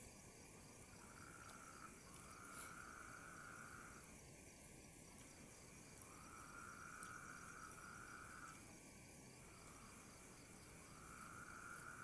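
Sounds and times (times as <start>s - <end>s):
evenly pulsed insect chirping: 0.0s - 12.0s
insect calling: 0.0s - 12.0s.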